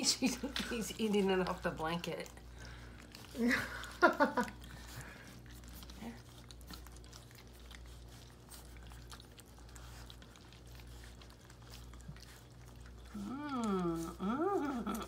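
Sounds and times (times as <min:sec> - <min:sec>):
puppies lapping and chewing: 0:00.0 - 0:15.0.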